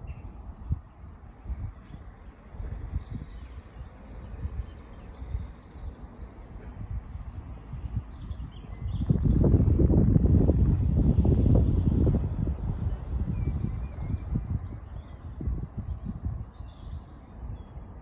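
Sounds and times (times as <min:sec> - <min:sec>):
small birds chirping: 0:00.0 - 0:18.0
wind buffeting microphone: 0:00.0 - 0:18.0.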